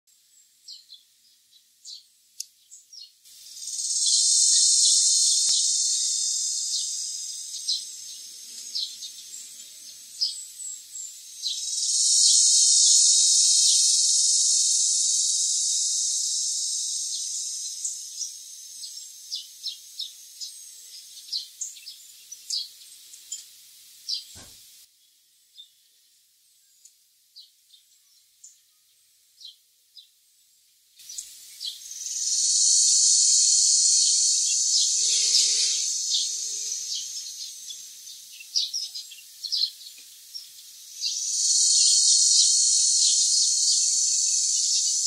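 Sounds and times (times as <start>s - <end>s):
cicada long high-pitched calls: 0.2s - 24.9s, 30.9s - 45.0s.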